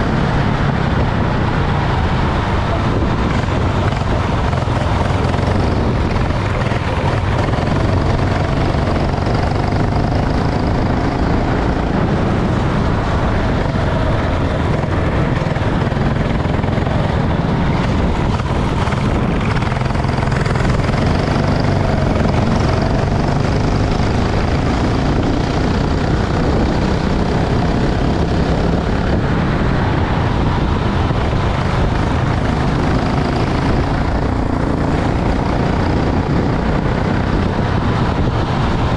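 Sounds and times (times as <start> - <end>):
racing kart engine: 0.0 - 38.9.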